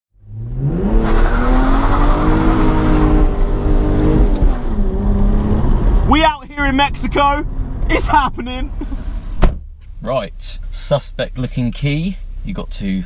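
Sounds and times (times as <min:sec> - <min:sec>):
car engine revving: 0:00.2 - 0:12.5.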